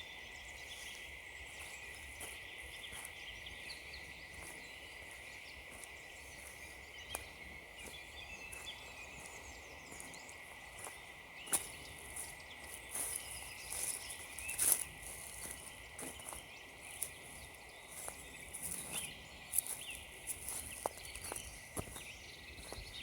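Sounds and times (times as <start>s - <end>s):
birds chirping faintly: 0.0s - 23.0s
footsteps on frozen leaves: 0.6s - 23.0s.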